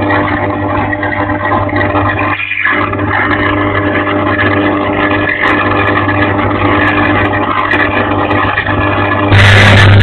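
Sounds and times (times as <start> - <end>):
mechanical hum with engine rumble: 0.0 - 10.0.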